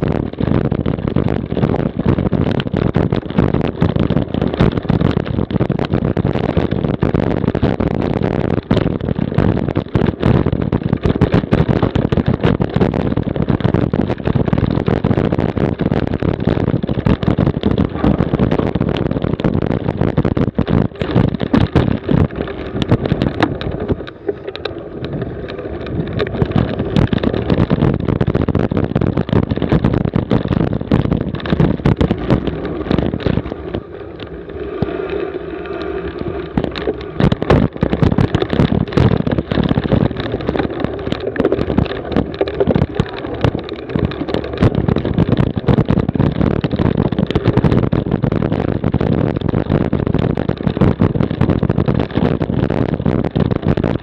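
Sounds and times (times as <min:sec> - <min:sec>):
bike rattling over rough ground: 0:00.0 - 0:54.0
wind on microphone: 0:00.0 - 0:54.0.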